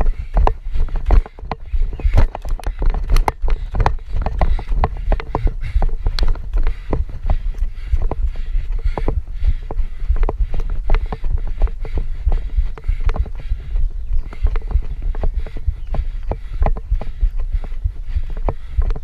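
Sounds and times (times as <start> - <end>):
handheld camera jostling thumps: 0.0 - 19.0
running footsteps on leafy dirt trail: 0.0 - 19.0.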